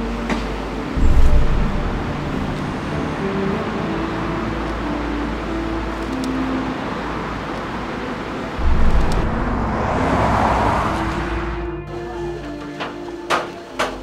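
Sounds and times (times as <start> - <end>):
road traffic: 0.0 - 14.0
vehicle passing close: 1.0 - 12.6.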